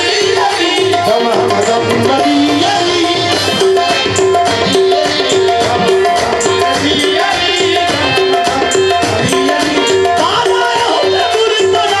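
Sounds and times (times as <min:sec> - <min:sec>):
harmonium riff: 0:00.0 - 0:12.0
person singing: 0:00.0 - 0:12.0
tabla strokes: 0:00.0 - 0:12.0.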